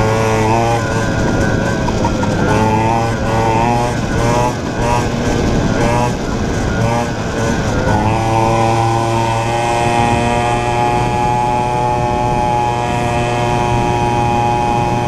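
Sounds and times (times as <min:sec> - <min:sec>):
two-stroke engine revving high: 0:00.0 - 0:15.0.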